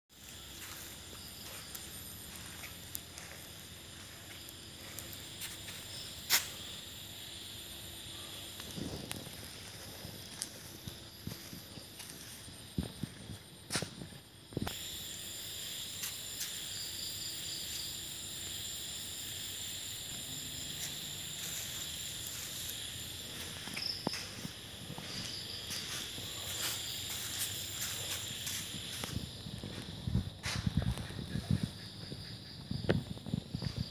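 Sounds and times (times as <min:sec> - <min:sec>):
insects chirring: 0:00.1 - 0:33.9.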